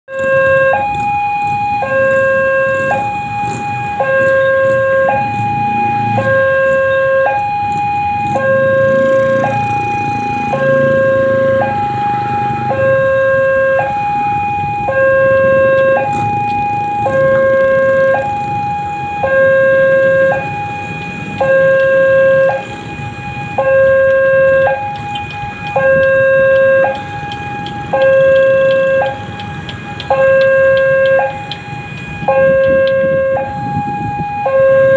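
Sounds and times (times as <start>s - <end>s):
two-tone level crossing alarm: 0.1s - 34.9s.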